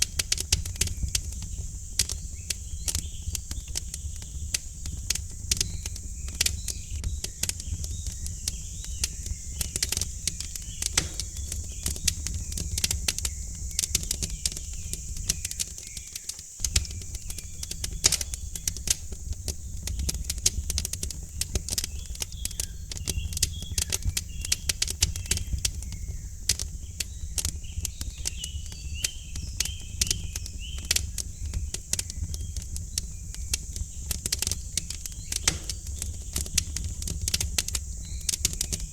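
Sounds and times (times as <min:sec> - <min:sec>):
wood fire crackling: 0:00.0 - 0:38.9
faint bird chirps: 0:00.7 - 0:38.9.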